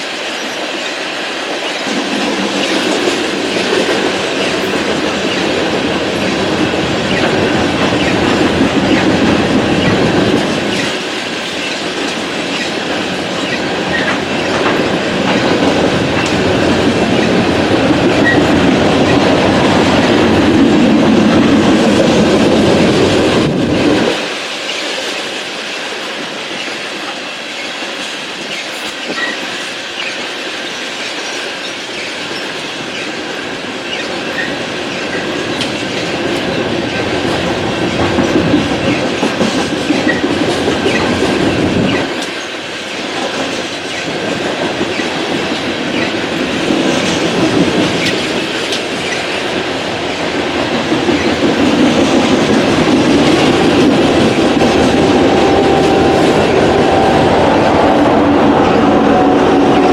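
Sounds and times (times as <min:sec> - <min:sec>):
train railcars rumbling past: 0:00.0 - 0:59.9
train wheel clatter: 0:00.0 - 0:59.9.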